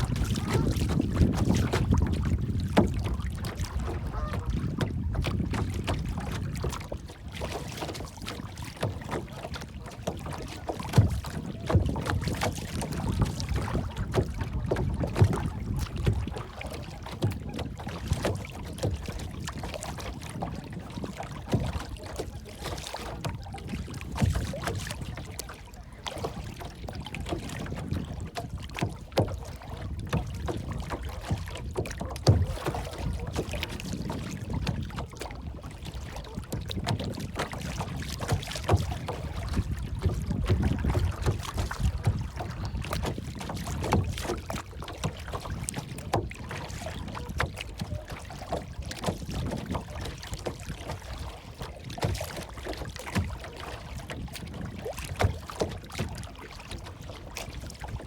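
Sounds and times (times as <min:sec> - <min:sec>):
small knocks and splashes: 0:00.0 - 0:58.0
water lapping and sloshing: 0:00.0 - 0:58.0
wind rumble on microphone: 0:00.0 - 0:58.0.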